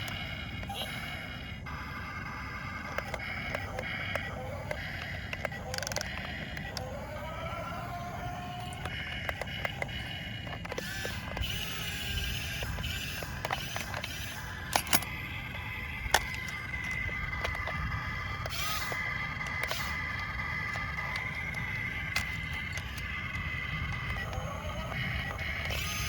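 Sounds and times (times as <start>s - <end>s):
sharp clicks: 0.0s - 26.0s
small electric motors whirring: 0.0s - 26.0s
steady high whine: 0.0s - 26.0s.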